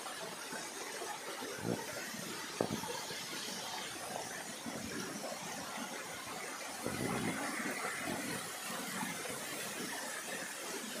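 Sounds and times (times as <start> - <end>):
water splashing in a tank: 0.0 - 11.0.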